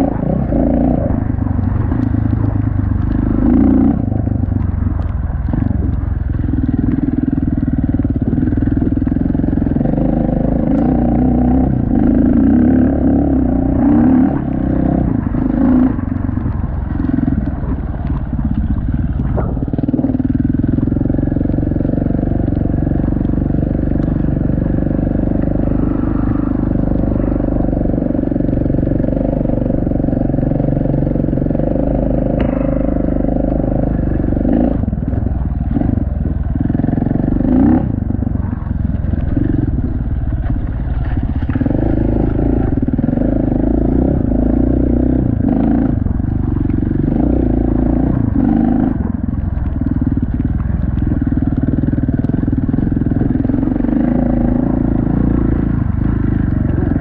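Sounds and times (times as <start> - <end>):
motorcycle engine under throttle: 0.0 - 57.0.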